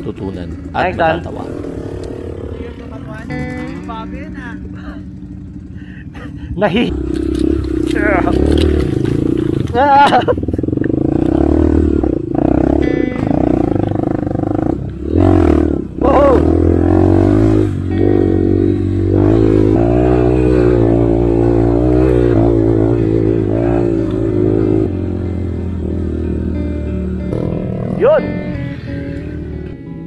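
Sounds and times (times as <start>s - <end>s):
dirt bike engine revving: 0.0s - 5.8s, 6.7s - 30.0s.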